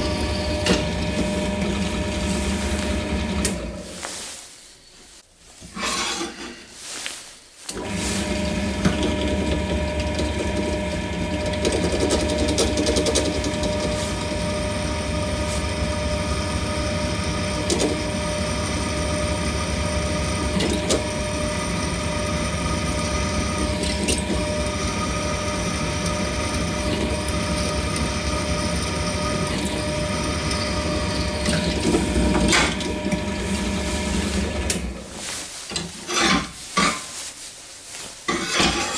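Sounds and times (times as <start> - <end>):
drill press motor humming: 0.0 - 3.8, 7.7 - 35.0.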